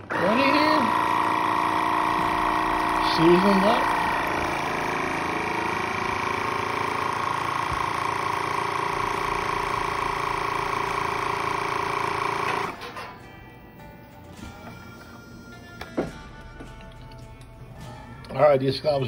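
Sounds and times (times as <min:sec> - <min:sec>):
vacuum sealer pump humming: 0:00.0 - 0:18.4.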